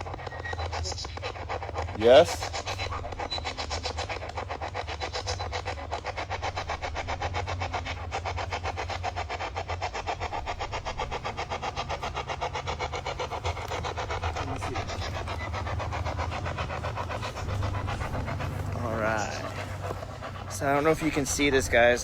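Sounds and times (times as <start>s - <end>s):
radio sweep static: 0.0s - 22.0s
steady low rumble: 0.0s - 22.0s.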